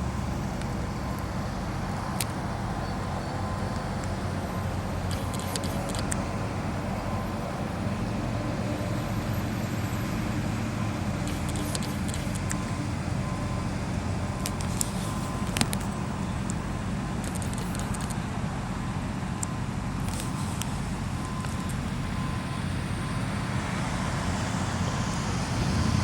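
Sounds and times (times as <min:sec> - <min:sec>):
engine droning steadily: 0:00.0 - 0:26.0.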